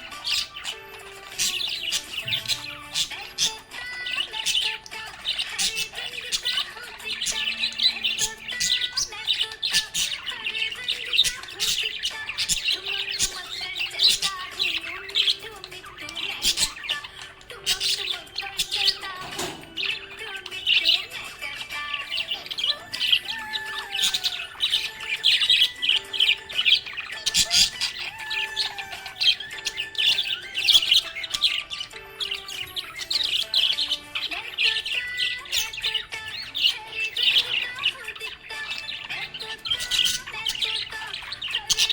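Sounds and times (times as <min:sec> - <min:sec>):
budgie chirping and chattering: 0:00.0 - 0:41.9.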